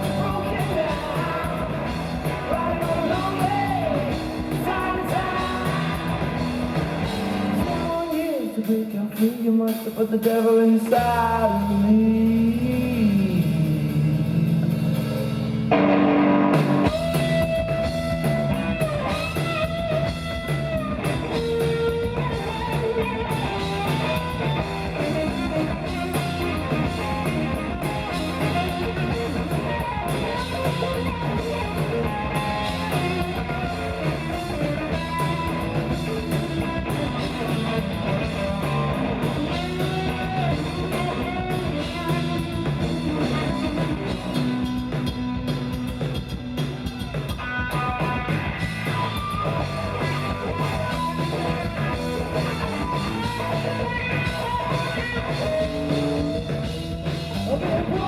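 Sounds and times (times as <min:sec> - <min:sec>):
bass guitar: 0:00.0 - 0:58.0
drum kit: 0:00.0 - 0:58.0
electric lead guitar: 0:00.0 - 0:58.0.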